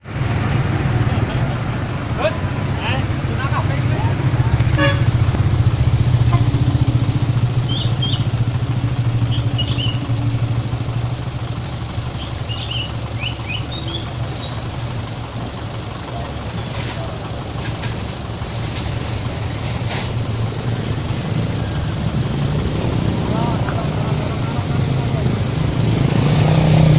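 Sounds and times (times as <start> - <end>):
vehicle engine humming: 0.0 - 26.9.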